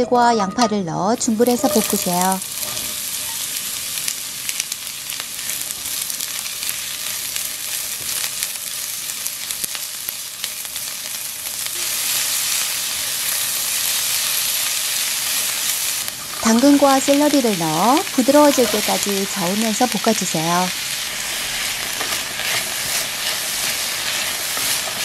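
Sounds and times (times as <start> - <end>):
onion sizzling in frying pan: 1.2 - 25.0.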